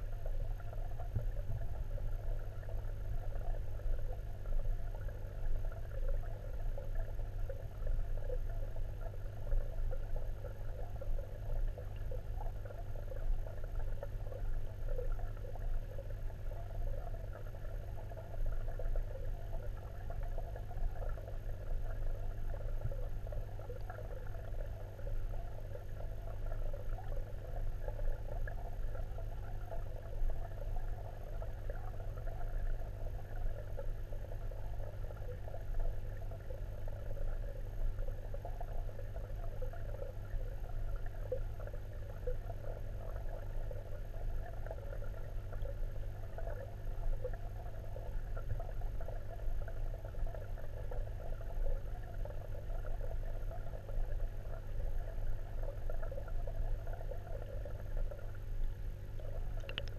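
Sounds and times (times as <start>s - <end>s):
fine underwater crackling: 0.0s - 59.9s
low underwater hum: 0.0s - 59.9s.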